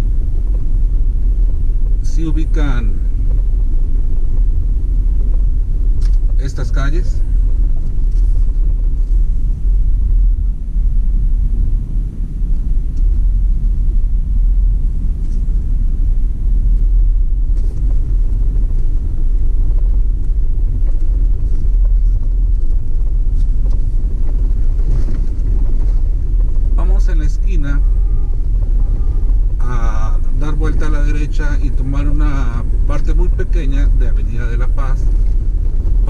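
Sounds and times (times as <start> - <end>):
car engine and road noise: 0.0 - 36.0.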